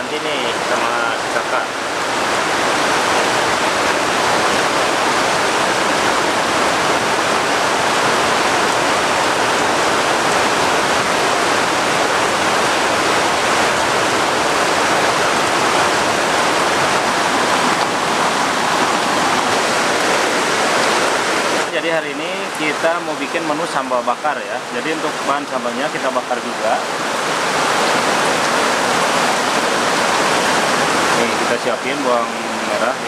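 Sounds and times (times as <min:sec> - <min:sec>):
water rushing: 0:00.0 - 0:33.0.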